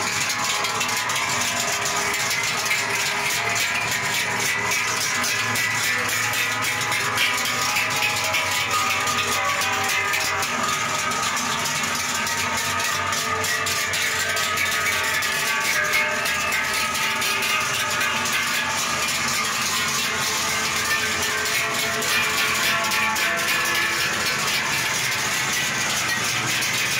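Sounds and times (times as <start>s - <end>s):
cowbells clanging: 0.0s - 26.9s.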